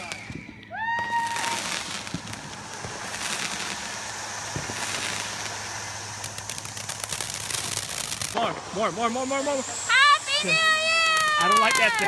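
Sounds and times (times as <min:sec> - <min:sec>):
firework crackles: 0:00.0 - 0:12.0
firework spraying with hiss: 0:00.0 - 0:12.0.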